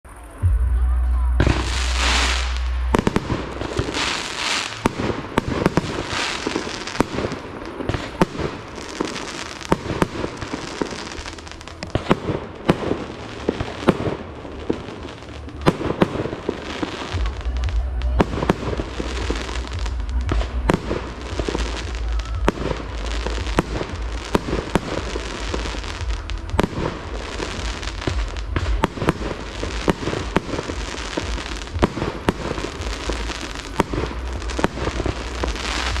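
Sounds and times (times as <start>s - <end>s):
fireworks bursting with bangs: 0.0s - 36.0s
fireworks hissing and crackling: 0.0s - 36.0s.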